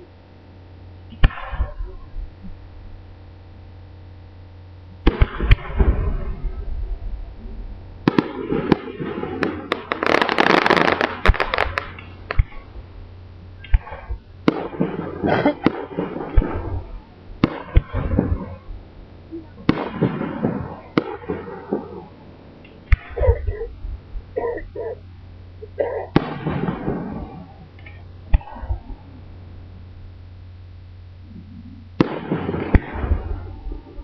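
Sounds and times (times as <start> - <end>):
fireworks bursting with bangs: 1.1 - 2.6, 4.9 - 7.3, 7.9 - 30.2, 31.2 - 34.0
fireworks crackling: 4.4 - 34.0.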